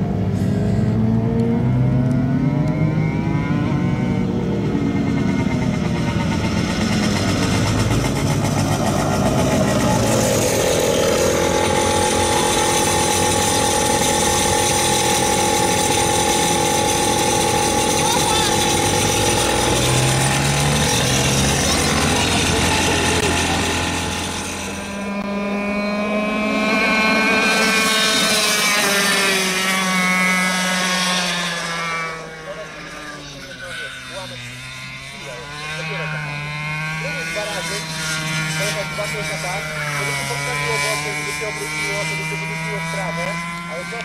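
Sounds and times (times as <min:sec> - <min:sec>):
go-kart engine at high revs: 0:00.0 - 0:44.0.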